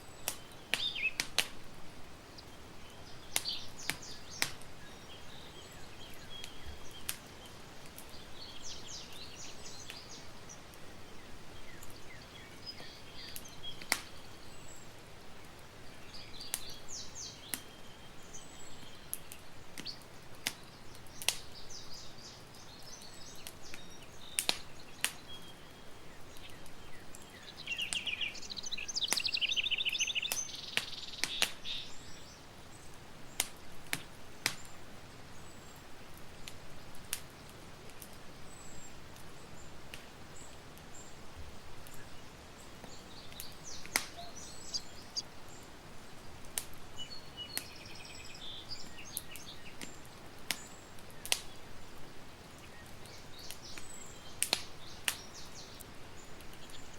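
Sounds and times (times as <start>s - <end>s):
birds singing in trills: 0.0s - 1.5s, 2.3s - 33.5s, 41.8s - 56.9s
campfire crackling: 0.0s - 56.9s
steady hiss: 0.0s - 56.9s
fire popping: 0.1s - 32.2s, 32.8s - 56.9s.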